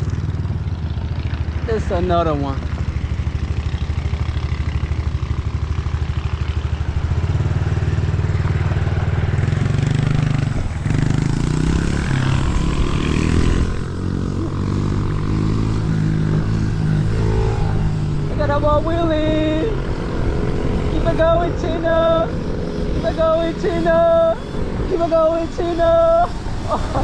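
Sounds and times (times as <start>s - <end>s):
mini bike engine revving: 0.0s - 27.0s.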